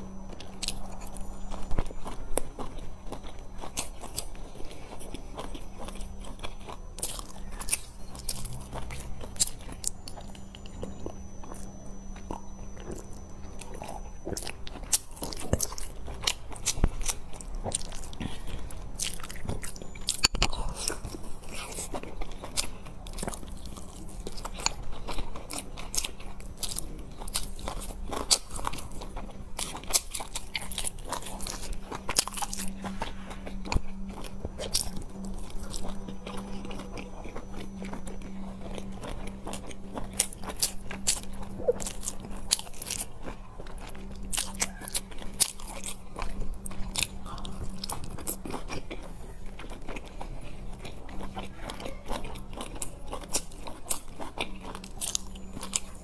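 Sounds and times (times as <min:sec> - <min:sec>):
chewing with wet mouth clicks: 0:00.0 - 0:56.0
faint steady hum: 0:00.0 - 0:56.0.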